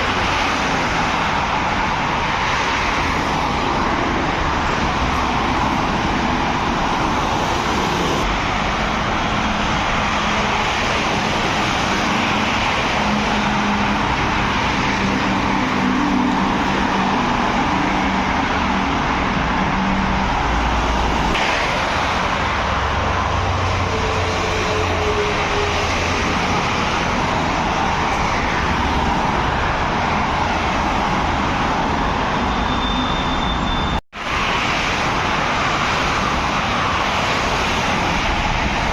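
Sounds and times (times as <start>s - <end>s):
heavy vehicles passing: 0.0s - 38.9s
road traffic noise: 0.0s - 38.9s.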